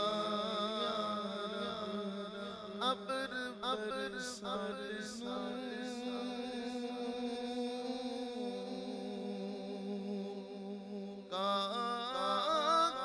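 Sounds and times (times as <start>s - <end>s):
man singing unaccompanied: 0.0s - 13.0s.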